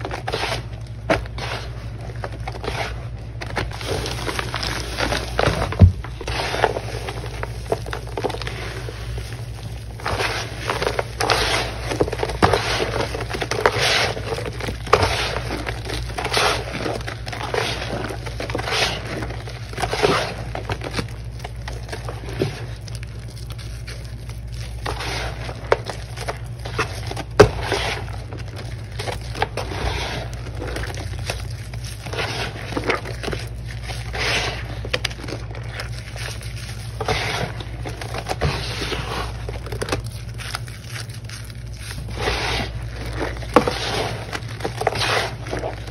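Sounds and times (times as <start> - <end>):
steady low hum: 0.0 - 45.9
wet squishing paste: 0.0 - 45.9.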